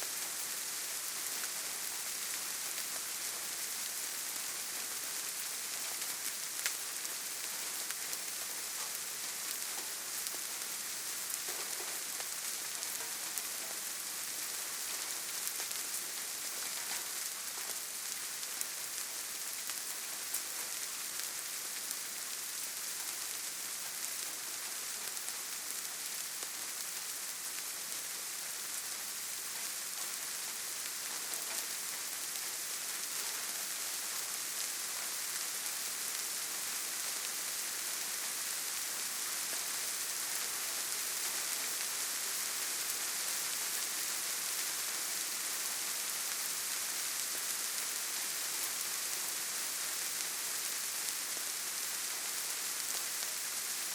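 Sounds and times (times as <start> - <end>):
gentle rain falling: 0.0 - 53.9.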